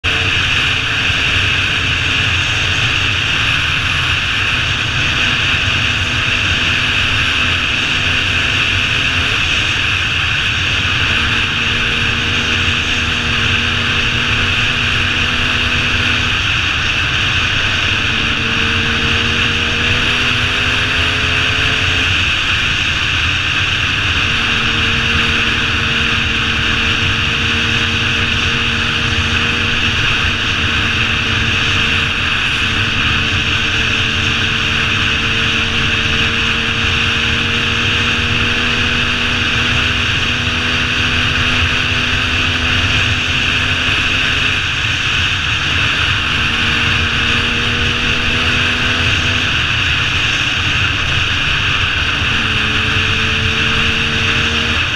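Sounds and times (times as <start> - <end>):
dirt bike engine running: 0.0 - 54.9
wind noise on helmet: 0.0 - 54.9.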